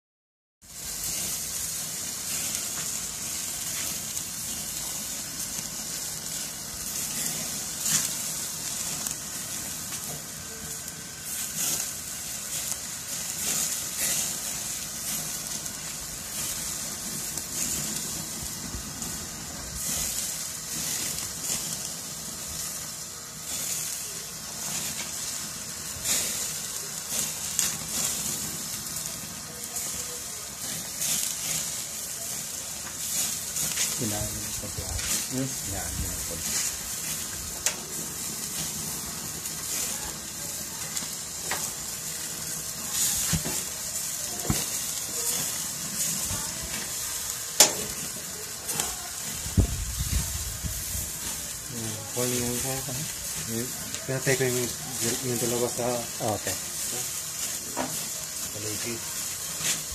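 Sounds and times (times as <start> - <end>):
steak sizzling with crackles: 0.6 - 59.9.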